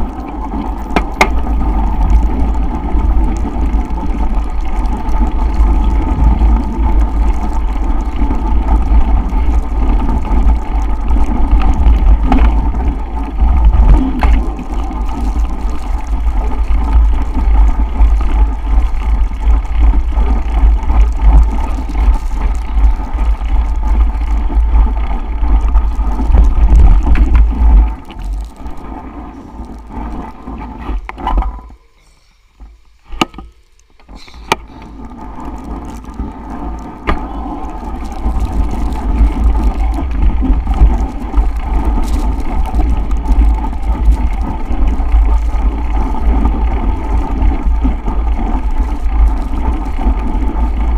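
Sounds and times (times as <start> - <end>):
wind buffeting microphone: 0.0 - 31.8, 34.1 - 50.9.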